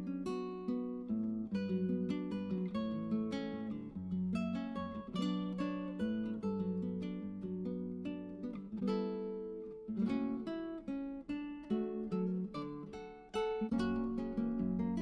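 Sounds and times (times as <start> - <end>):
plucked acoustic guitar: 0.0 - 15.0.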